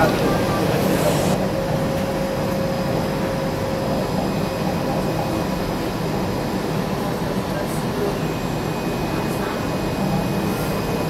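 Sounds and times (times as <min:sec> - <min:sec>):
railbus engine rumble: 0:00.0 - 0:11.0.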